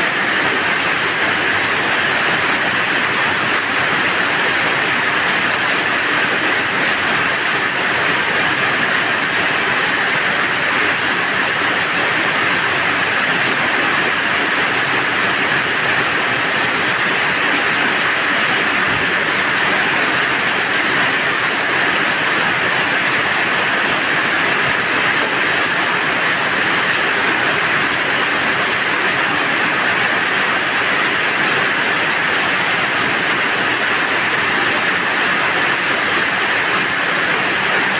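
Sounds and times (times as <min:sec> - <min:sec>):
steady rain: 0:00.0 - 0:37.9
wind: 0:00.0 - 0:37.9.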